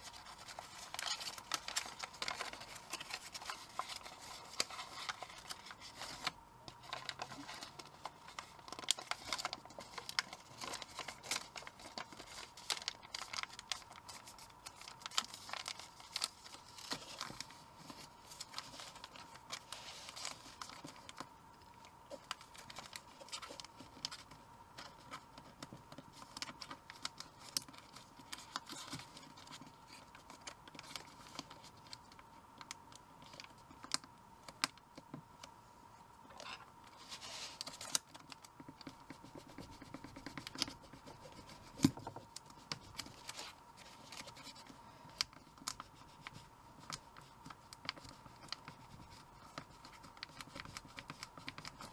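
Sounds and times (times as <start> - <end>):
paper crinkling and rustling: 0.0 - 34.8, 36.9 - 51.9.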